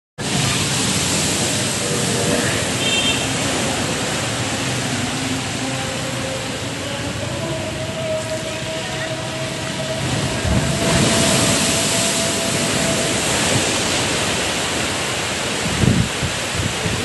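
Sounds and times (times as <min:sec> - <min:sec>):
sea waves breaking: 0:00.2 - 0:17.0
water rushing across road: 0:00.2 - 0:17.0.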